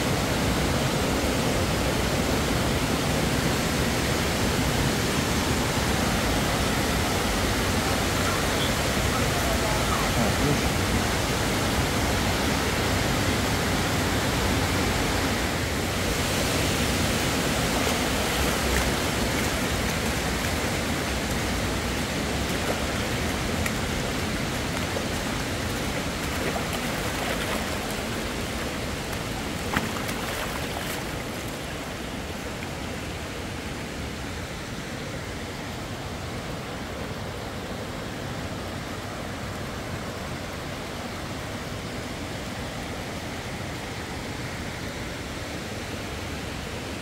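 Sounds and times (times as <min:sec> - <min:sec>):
floodwater rushing over rocks: 0:00.0 - 0:47.0.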